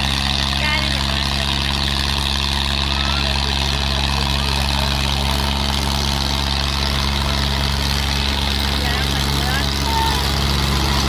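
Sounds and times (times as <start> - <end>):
diesel tractor engines droning: 0.0 - 11.0.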